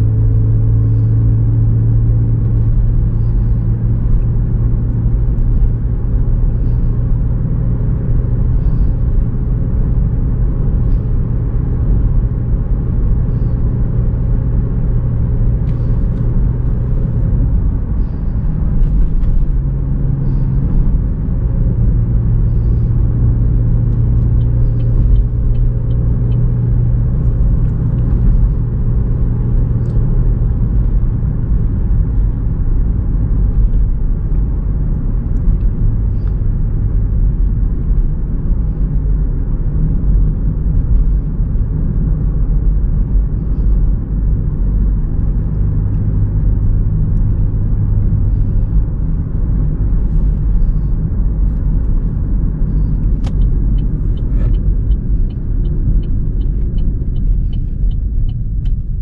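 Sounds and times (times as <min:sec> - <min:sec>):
car engine and exhaust drone: 0:00.0 - 0:59.0.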